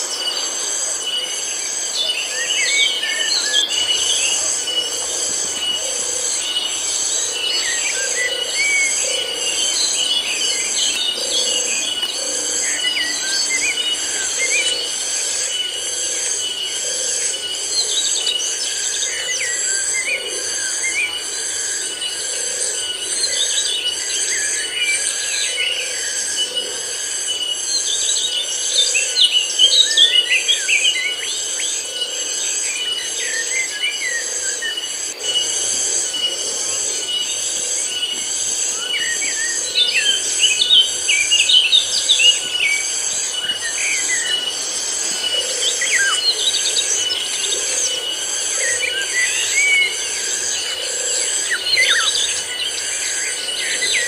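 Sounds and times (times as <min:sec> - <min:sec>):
birds chirping: 0:00.0 - 0:54.0
cicadas droning: 0:00.0 - 0:54.0.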